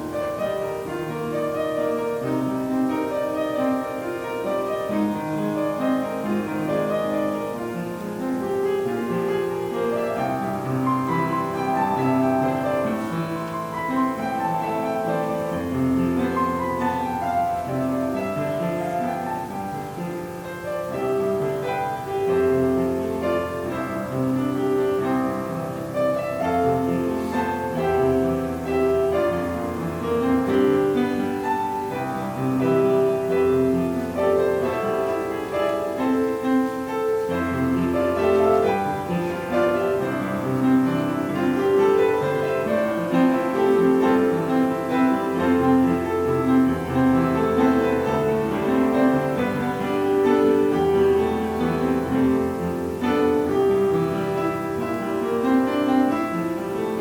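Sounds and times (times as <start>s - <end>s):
slow piano classical music: 0.0s - 57.0s.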